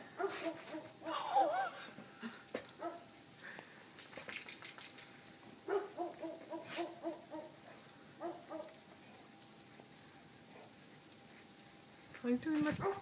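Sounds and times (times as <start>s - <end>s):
crackling: 0.2s - 13.0s.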